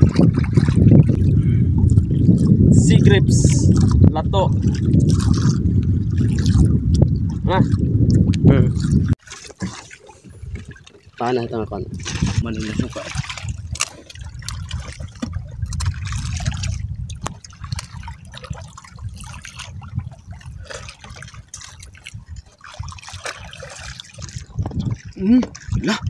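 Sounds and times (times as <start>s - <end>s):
wind rumble on microphone: 0.0s - 9.2s, 10.2s - 26.0s
water sloshing against boat: 0.0s - 26.0s.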